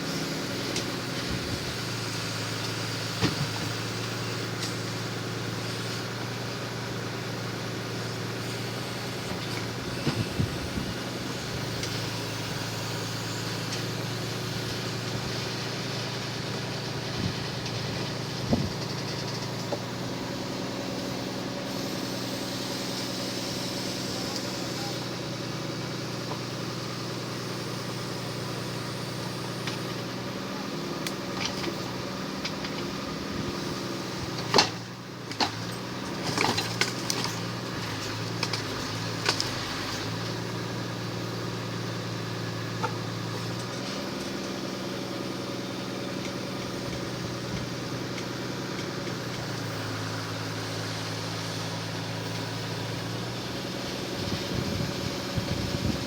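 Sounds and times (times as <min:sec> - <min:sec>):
crane engine and hydraulics: 0:00.0 - 0:56.0.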